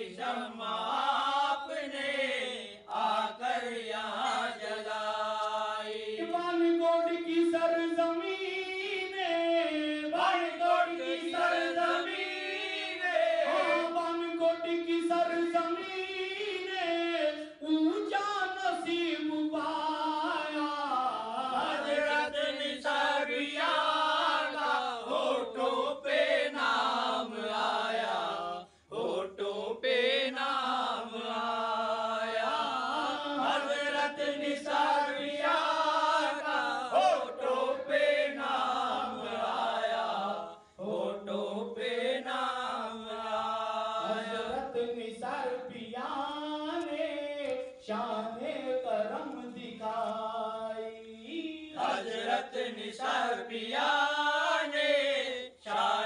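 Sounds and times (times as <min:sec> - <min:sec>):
men singing a devotional chant: 0:00.0 - 0:56.0.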